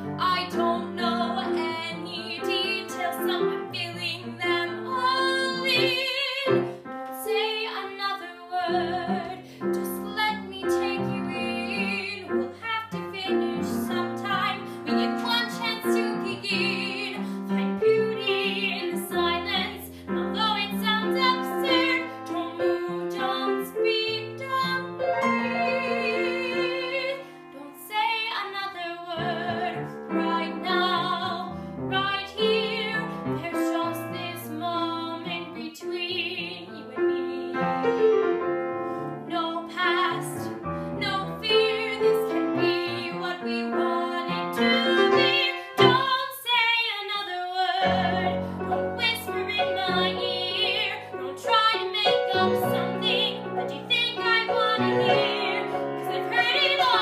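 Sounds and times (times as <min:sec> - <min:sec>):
woman singing with vibrato: 0:00.0 - 0:37.7, 0:39.2 - 0:57.0
grand piano: 0:00.0 - 0:57.0.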